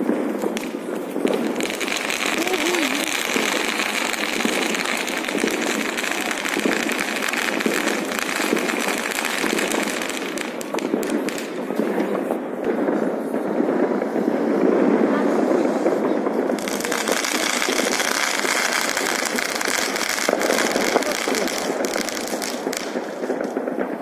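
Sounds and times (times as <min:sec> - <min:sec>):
firework hissing and crackling: 0:00.0 - 0:24.0
sharp firework cracks: 0:00.0 - 0:24.0.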